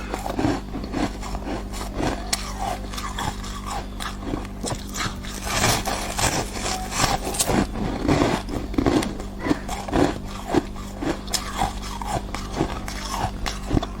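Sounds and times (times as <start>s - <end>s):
ice being chewed: 0.0s - 14.0s
steady low hum: 0.0s - 14.0s.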